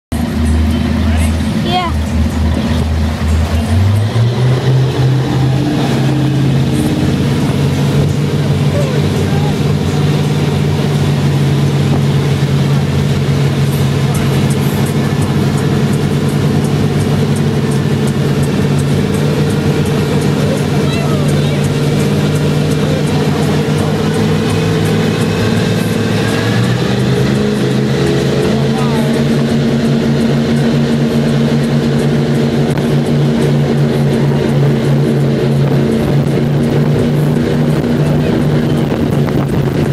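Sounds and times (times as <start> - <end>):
churning wake water: 0.1 - 39.9
powerboat engine drone: 0.1 - 39.9
wind: 0.1 - 39.9.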